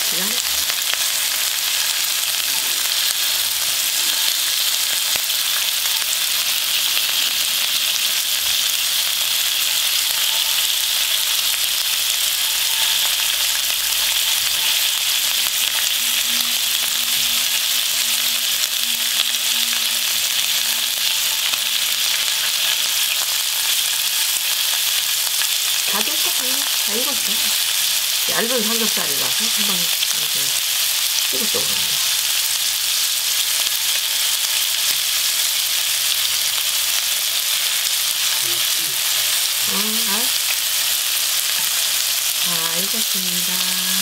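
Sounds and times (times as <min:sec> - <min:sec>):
food frying in oil: 0:00.0 - 0:44.0.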